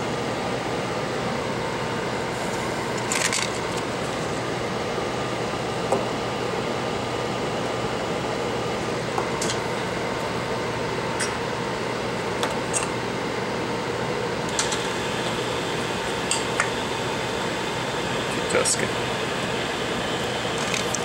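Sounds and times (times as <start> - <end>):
steady fan-like hum: 0.0 - 21.0.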